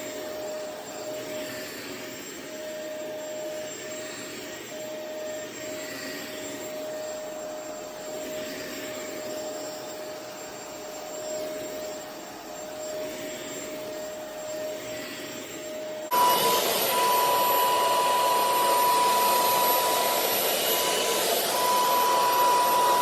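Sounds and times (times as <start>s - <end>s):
carpet cleaner motor and suction: 0.0s - 23.0s
steady whine: 0.0s - 23.0s.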